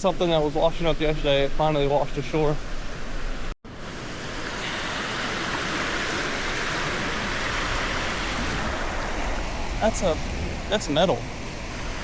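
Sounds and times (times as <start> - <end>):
surf on sandy beach: 0.1 - 12.0.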